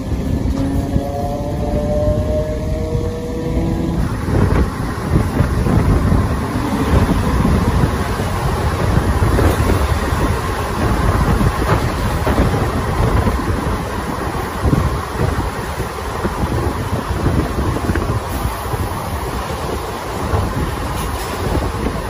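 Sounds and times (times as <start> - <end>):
train wheels clattering on track: 0.0 - 22.0.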